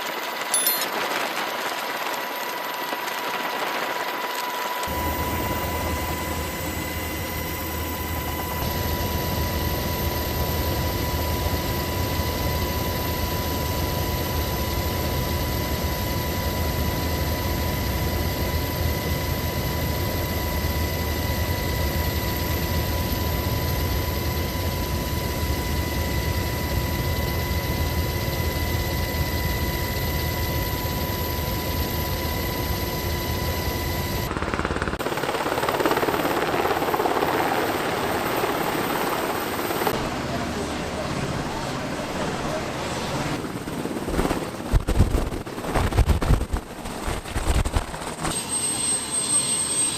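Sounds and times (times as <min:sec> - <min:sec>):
aircraft engine whine: 0:00.0 - 0:49.9.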